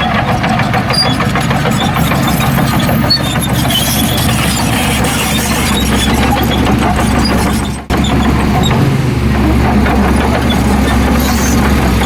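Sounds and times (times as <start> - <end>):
diesel machinery engine hum: 0.0 - 12.0.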